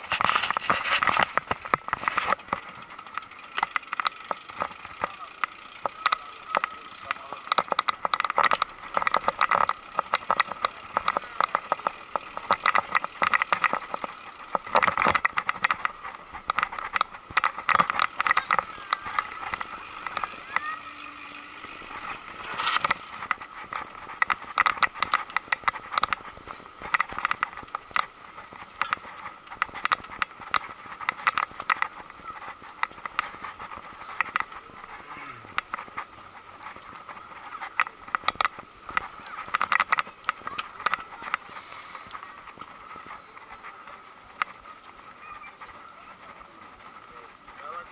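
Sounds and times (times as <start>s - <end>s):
mountain bike clattering on bricks: 0.0s - 47.9s.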